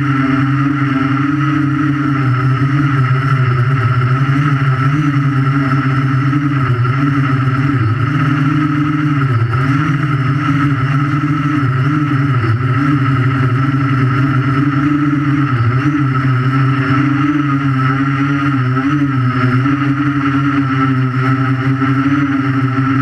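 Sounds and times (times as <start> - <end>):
quadcopter motors humming: 0.0 - 23.0.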